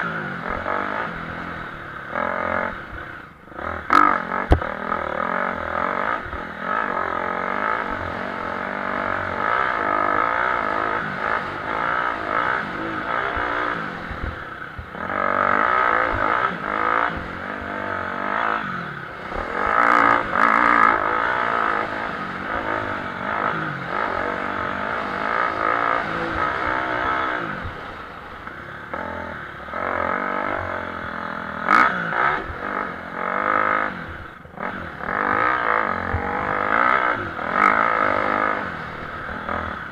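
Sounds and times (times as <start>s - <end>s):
motocross engines revving: 0.0s - 39.9s.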